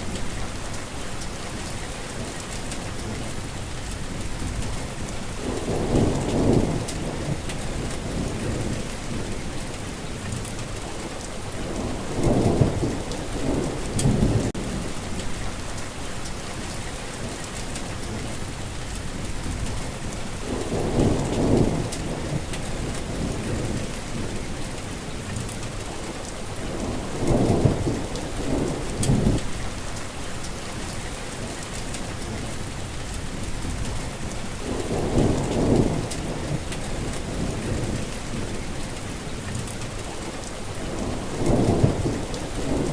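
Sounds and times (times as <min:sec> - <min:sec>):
heavy rain: 0:00.0 - 0:42.9
thunder rumbling: 0:02.8 - 0:10.5, 0:11.4 - 0:15.8, 0:16.6 - 0:25.5, 0:26.5 - 0:30.2, 0:32.0 - 0:42.9.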